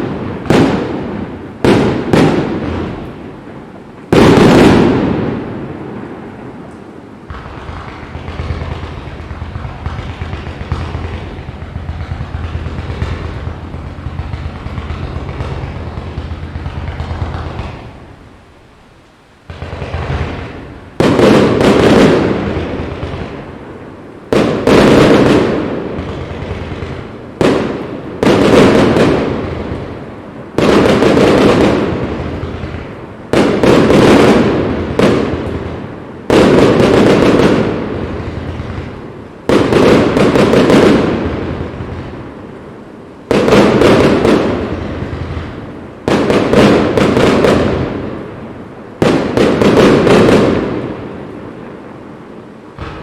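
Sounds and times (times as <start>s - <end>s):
fireworks bangs with rumbling echo: 0.0s - 53.0s.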